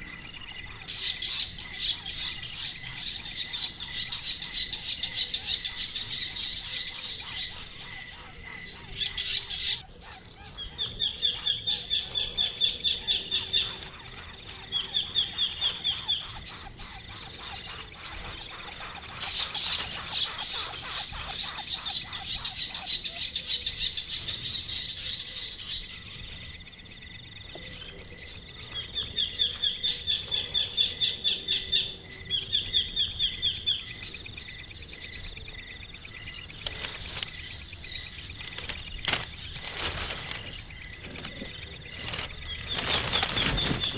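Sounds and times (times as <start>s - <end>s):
high trilled bird calls: 0.0s - 27.3s, 28.4s - 43.9s
insect chirping: 0.0s - 43.9s.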